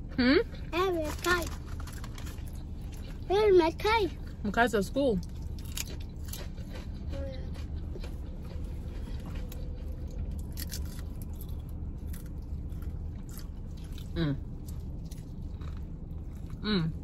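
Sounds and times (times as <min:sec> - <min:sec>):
chewing and crunching food: 0:00.0 - 0:17.0
steady low hum: 0:00.0 - 0:17.0.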